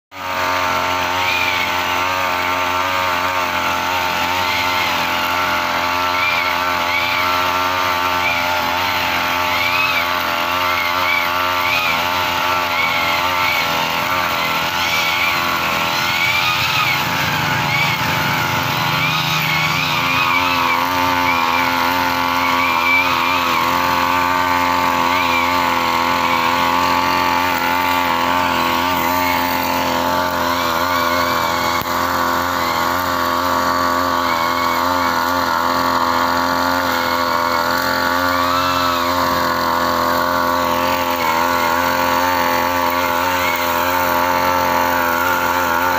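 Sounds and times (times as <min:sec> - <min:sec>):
brush cutter engine cutting grass: 0:00.0 - 0:45.9.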